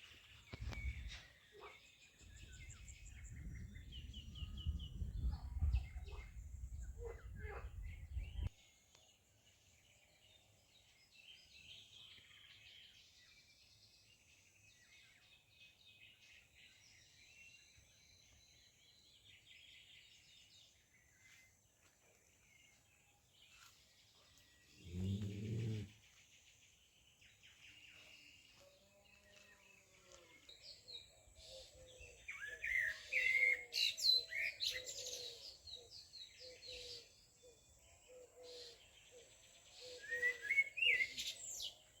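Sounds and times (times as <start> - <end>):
small birds chirping and singing: 0.0 - 42.0.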